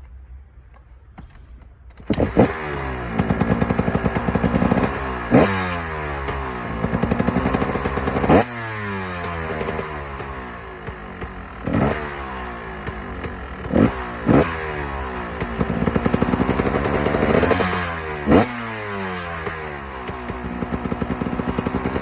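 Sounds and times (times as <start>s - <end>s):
two-stroke engine revving: 2.1s - 22.0s.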